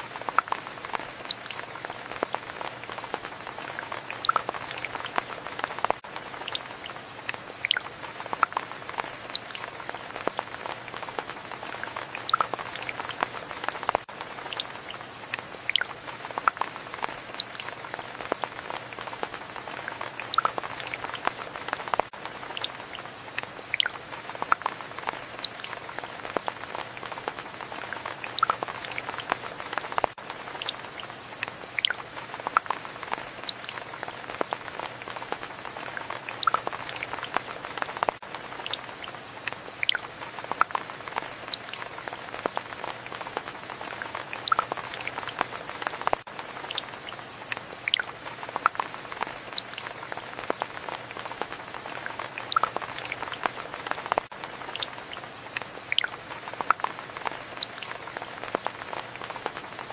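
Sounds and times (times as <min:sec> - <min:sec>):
rain dripping and pattering: 0:00.0 - 0:59.9.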